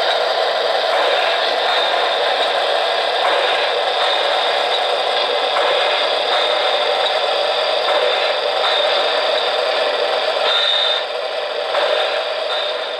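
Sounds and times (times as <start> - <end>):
model train wheels rattling: 0.0 - 12.9
motor whir with high whine: 0.0 - 12.9.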